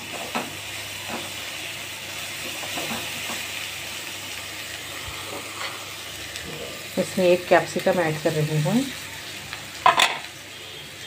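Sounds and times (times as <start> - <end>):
masala sizzling in a wok: 0.0 - 11.0.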